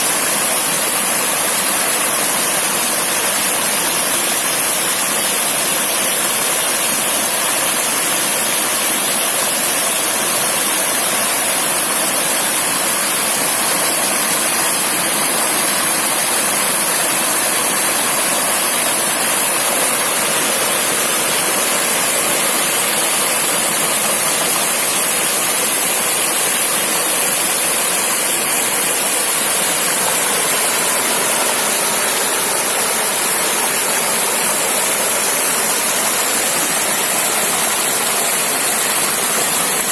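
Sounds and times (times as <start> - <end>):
river rushing over stones: 0.1 - 39.9.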